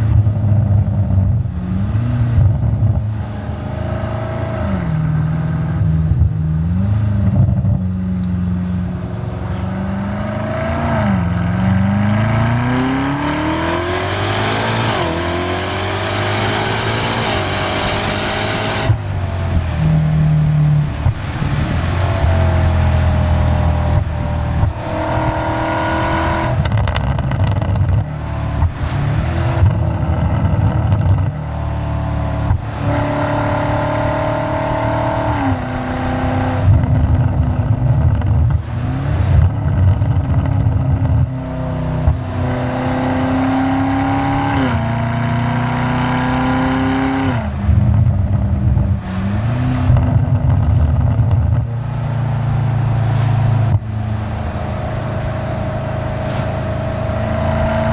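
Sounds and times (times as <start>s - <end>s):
car engine accelerating hard: 0.0s - 57.9s.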